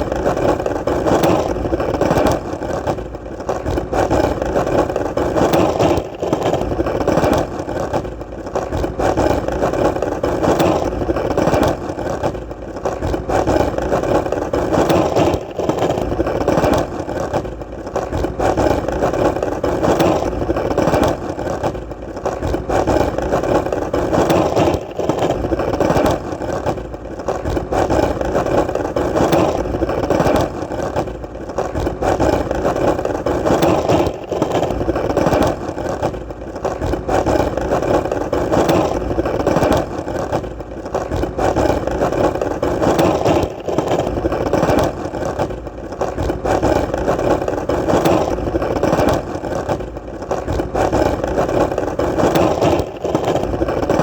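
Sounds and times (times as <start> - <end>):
skateboard wheels rolling: 0.0 - 54.0.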